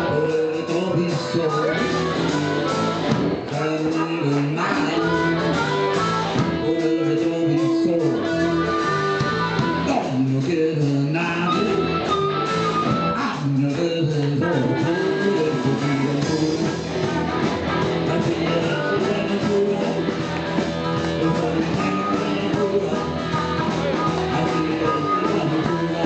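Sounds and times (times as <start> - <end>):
bass line: 0.0 - 26.0
blues-rock band playing: 0.0 - 26.0
electric guitar: 0.0 - 26.0.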